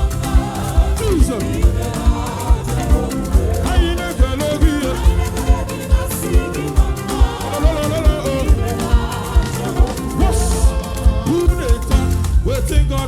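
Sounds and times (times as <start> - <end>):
upbeat live band music: 0.0 - 13.0.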